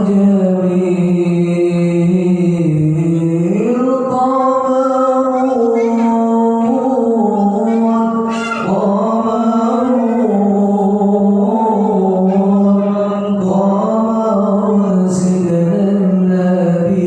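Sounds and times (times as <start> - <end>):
man singing devotional chant: 0.0 - 17.0.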